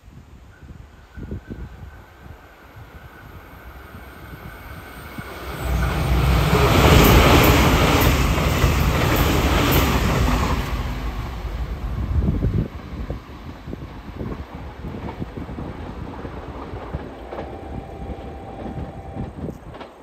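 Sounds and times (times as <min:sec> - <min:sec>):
train passing at speed: 0:01.0 - 0:20.0.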